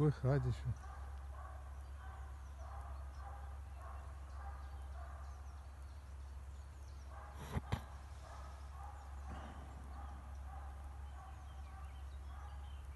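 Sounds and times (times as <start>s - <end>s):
distant hound baying: 0.1s - 5.6s, 7.0s - 12.9s.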